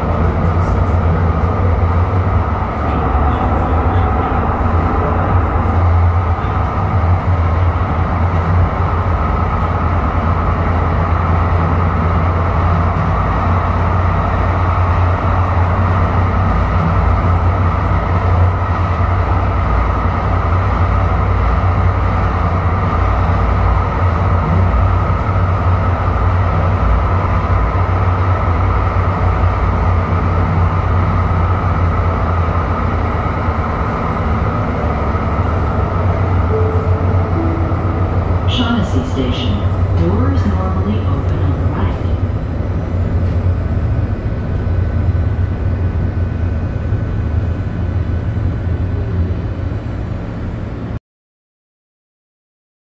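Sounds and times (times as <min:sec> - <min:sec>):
light rail train rumble: 0:00.0 - 0:51.0.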